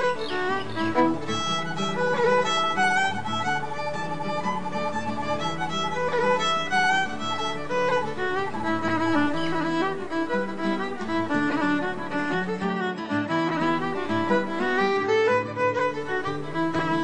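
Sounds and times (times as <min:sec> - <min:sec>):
flowing background music: 0:00.0 - 0:17.0.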